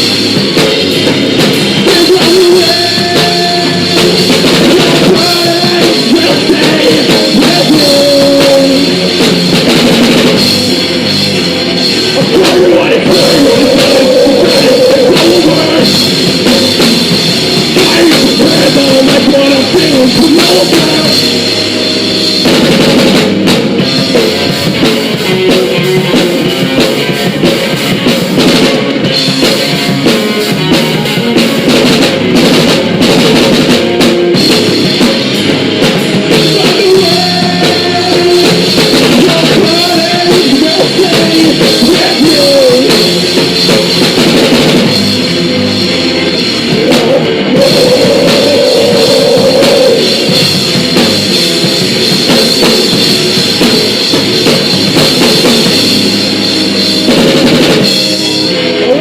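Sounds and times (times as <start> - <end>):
drum kit: 0.0 - 59.0
guitar: 0.0 - 59.0.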